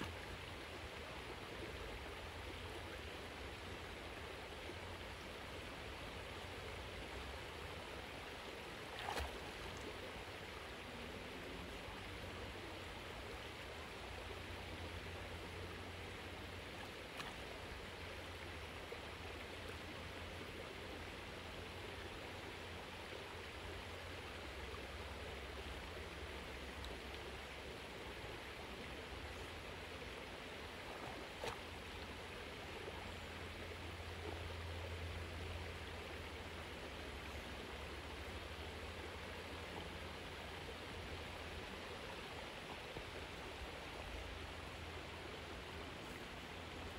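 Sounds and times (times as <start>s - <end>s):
creek rushing: 0.0s - 46.9s.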